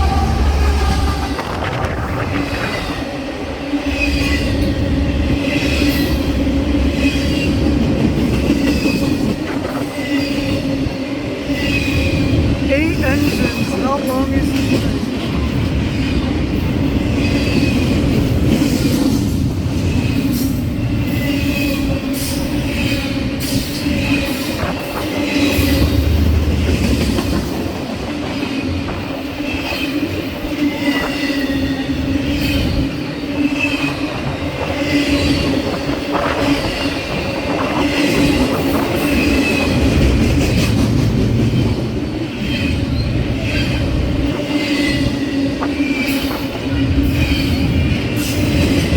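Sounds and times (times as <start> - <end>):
freight train cars rolling: 0.0 - 48.9.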